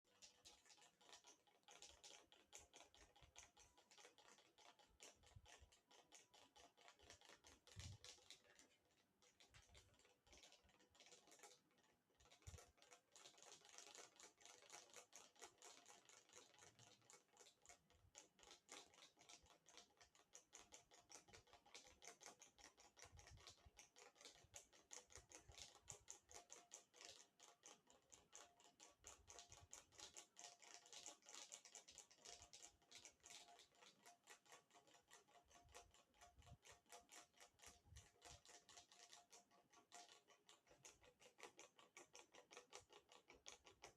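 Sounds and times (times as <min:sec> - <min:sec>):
ceiling fan ticking: 0:00.0 - 0:43.9.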